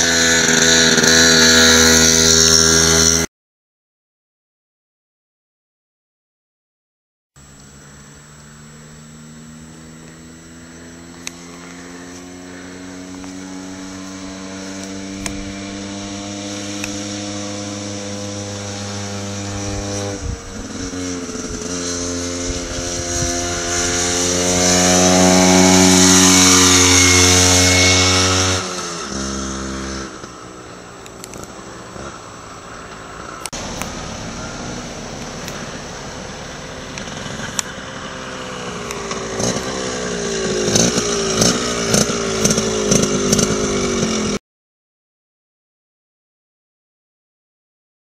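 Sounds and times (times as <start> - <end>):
scooter engine accelerating: 0.0 - 3.3, 7.4 - 44.4.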